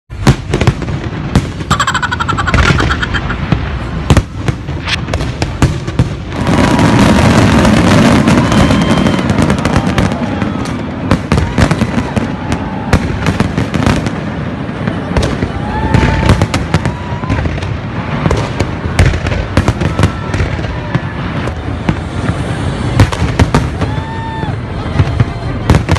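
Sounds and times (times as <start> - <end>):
fireworks bangs and crackling: 0.1 - 25.9.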